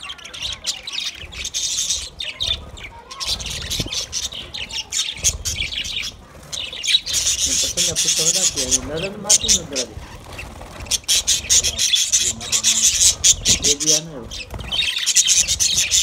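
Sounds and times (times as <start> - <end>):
budgerigars chattering: 0.0 - 16.0.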